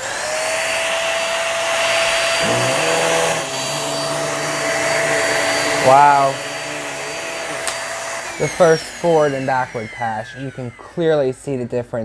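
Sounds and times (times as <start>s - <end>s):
vacuum cleaner motor whine: 0.0s - 11.7s.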